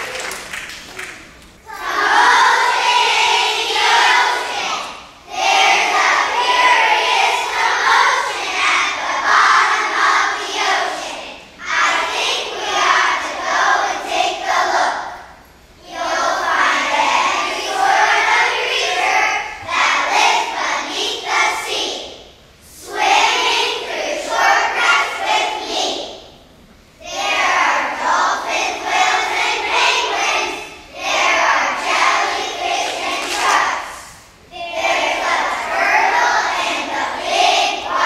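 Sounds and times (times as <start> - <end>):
young children singing in unison: 1.6 - 26.4, 27.0 - 38.0.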